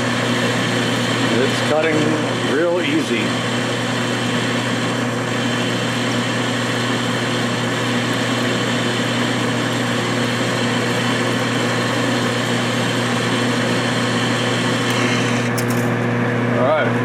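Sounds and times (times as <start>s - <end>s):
metal lathe humming: 0.0s - 15.9s.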